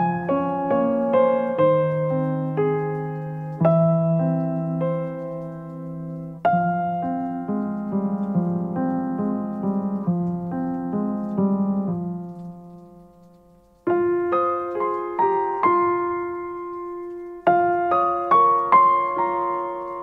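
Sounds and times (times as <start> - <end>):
soft solo piano: 0.0 - 20.0.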